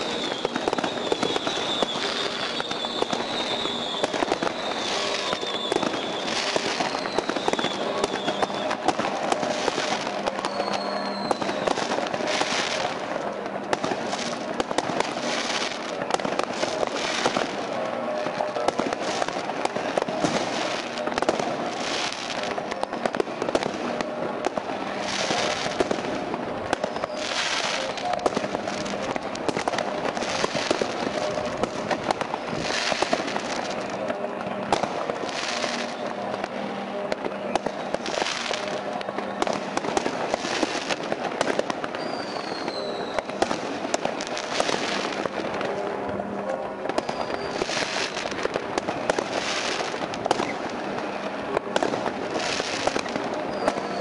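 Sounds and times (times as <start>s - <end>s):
falling firework whistle: 0.0s - 45.9s, 46.8s - 54.0s
firecrackers crackling: 0.0s - 54.0s
rockets banging: 0.0s - 54.0s.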